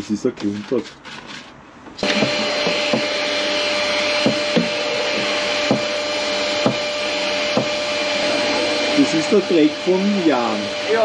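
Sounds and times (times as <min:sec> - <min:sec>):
shop vacuum whining: 0:01.9 - 0:11.0.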